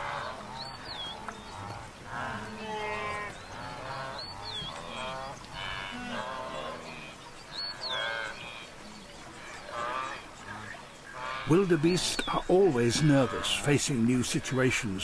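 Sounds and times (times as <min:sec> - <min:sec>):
wildebeest calling: 0:00.0 - 0:15.0.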